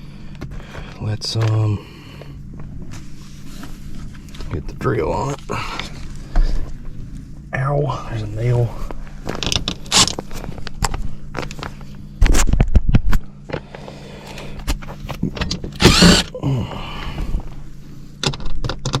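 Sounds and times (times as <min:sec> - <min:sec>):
low hum: 0:00.0 - 0:18.2.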